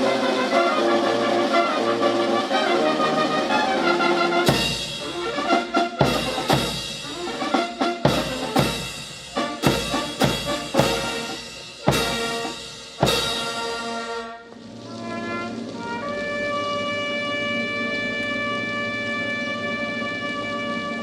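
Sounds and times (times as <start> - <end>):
heavy drum strokes: 0.0 - 17.5
brass band playing: 0.0 - 21.0.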